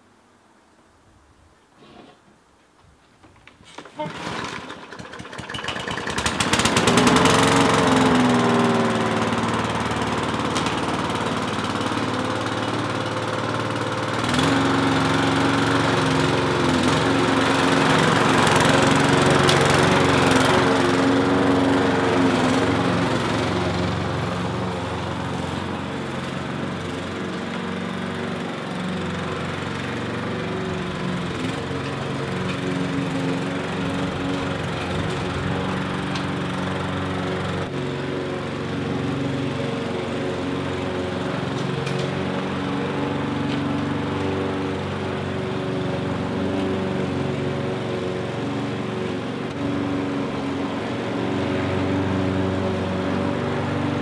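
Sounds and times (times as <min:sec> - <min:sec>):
lawn mower engine running: 0:03.4 - 0:54.0.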